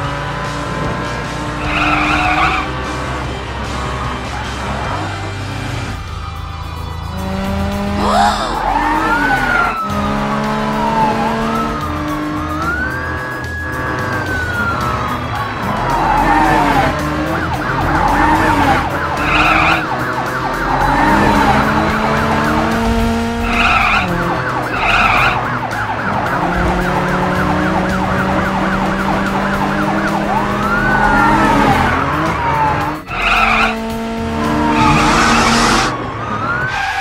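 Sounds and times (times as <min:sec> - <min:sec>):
background music: 0:00.0 - 0:37.0
tyres skidding: 0:00.0 - 0:37.0
cartoon engine hum: 0:04.4 - 0:36.6.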